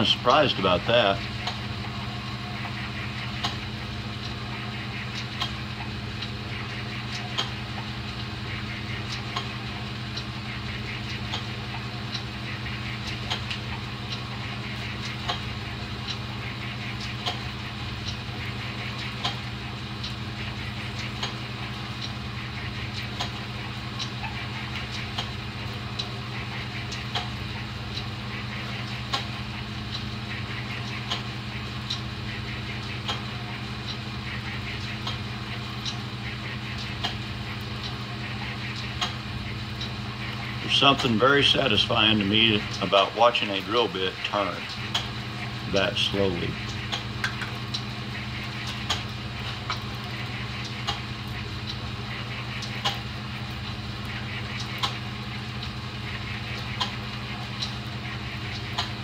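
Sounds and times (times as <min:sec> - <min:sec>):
light ticking: 0:08.9 - 0:59.0.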